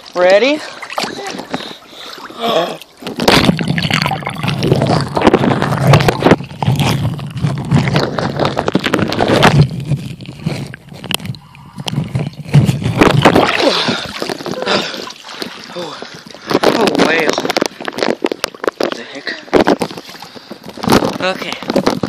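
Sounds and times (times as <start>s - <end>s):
muffled underwater gurgling and sloshing: 0.1s - 22.0s.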